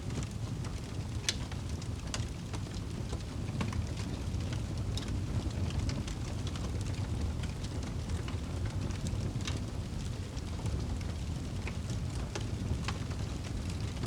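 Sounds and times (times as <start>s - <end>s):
burning wood crackling and popping: 0.0s - 14.0s
low rumble of flame: 0.0s - 14.0s.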